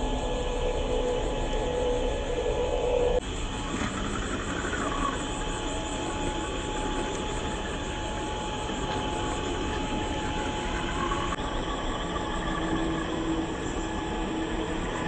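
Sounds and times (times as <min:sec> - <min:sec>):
continuous noisy rumble: 0:00.0 - 0:15.0
electric motor whine: 0:00.0 - 0:15.0.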